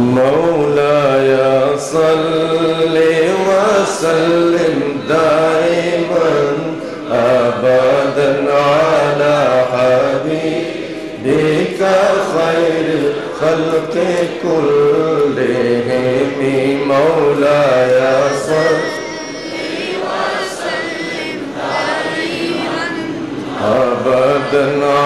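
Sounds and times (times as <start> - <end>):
man chanting melodically: 0.0 - 10.6, 11.2 - 19.5, 23.6 - 25.0.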